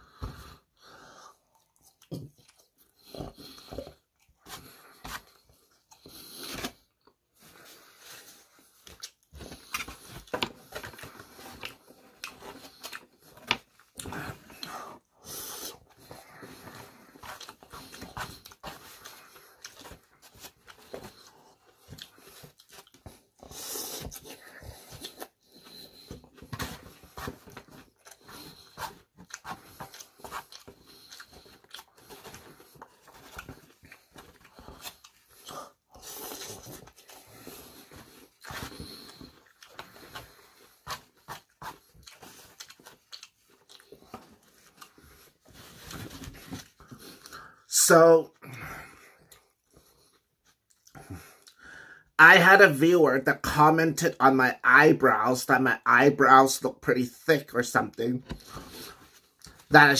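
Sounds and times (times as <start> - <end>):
chewing and crunching food: 1.4 - 47.6, 48.4 - 51.7, 58.3 - 59.7.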